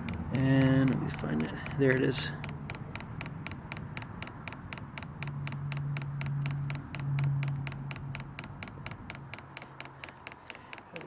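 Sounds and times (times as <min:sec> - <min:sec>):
fuel pump ticking rapidly: 0:00.0 - 0:11.0.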